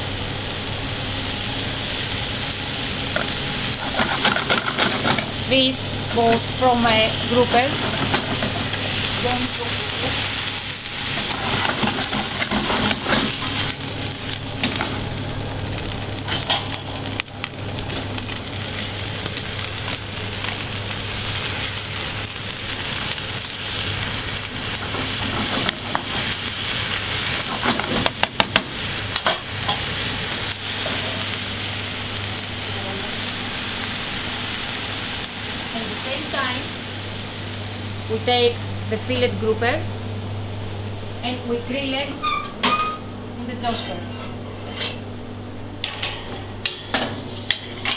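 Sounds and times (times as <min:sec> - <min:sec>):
greens sizzling in a frying pan: 0:00.0 - 0:42.0.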